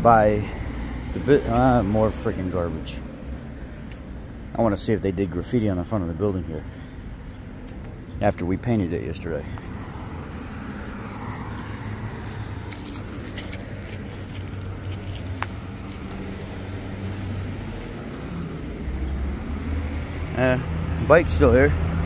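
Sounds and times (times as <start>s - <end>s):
rumble of car engines: 0.0s - 22.0s.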